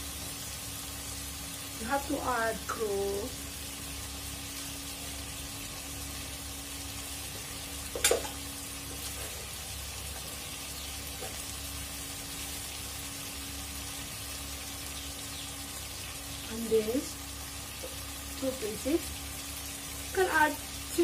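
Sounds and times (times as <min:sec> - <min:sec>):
food sizzling in cooker: 0:00.0 - 0:21.0.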